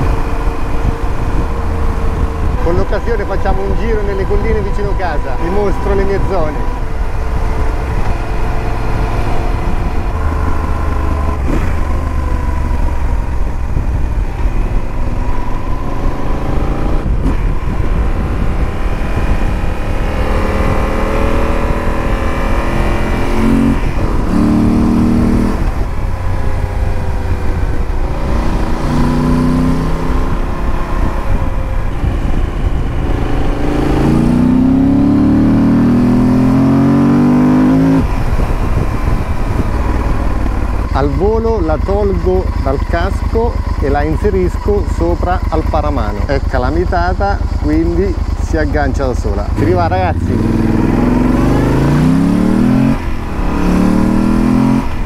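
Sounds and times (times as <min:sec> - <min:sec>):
motorcycle engine revving: 0:00.0 - 0:55.0
wind rumble on camera: 0:00.0 - 0:55.0.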